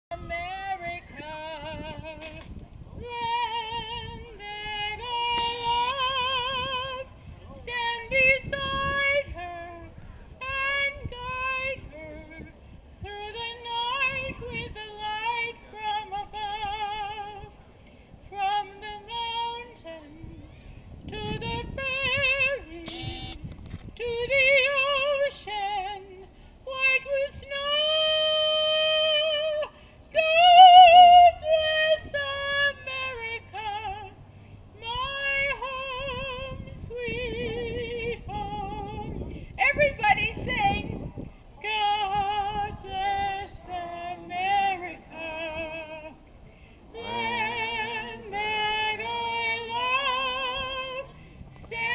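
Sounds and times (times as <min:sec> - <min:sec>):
woman singing into microphone: 0:00.1 - 0:17.5, 0:18.3 - 0:34.2, 0:34.8 - 0:46.2, 0:46.9 - 0:51.9.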